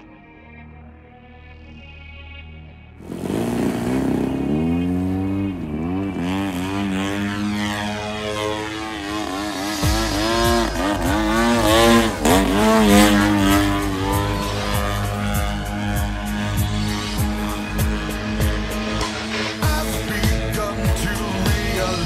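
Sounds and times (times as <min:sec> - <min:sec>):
model plane engine revving: 0:03.0 - 0:22.0.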